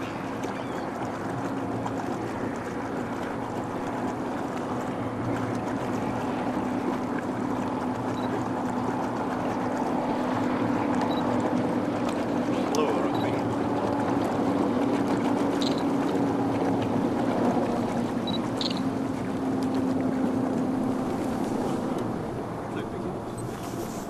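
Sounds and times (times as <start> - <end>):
boat rushing over water: 0.0 - 24.0.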